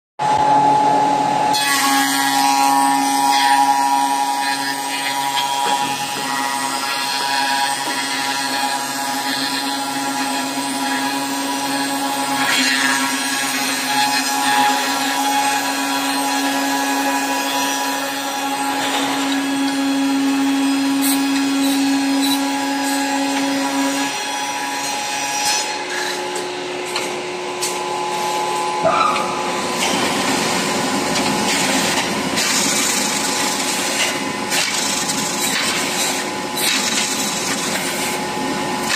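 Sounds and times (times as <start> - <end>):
milling machine whine: 0.2 - 38.9
wood being cut: 1.5 - 38.9.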